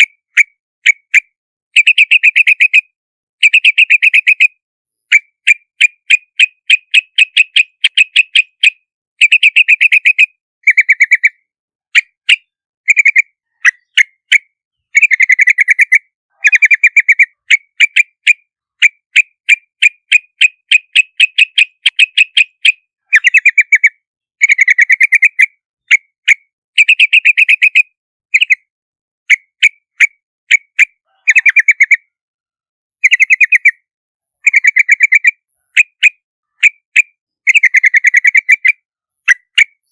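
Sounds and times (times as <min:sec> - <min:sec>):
bulbul calling: 0:00.0 - 0:28.7, 0:29.3 - 0:32.1, 0:33.0 - 0:39.9.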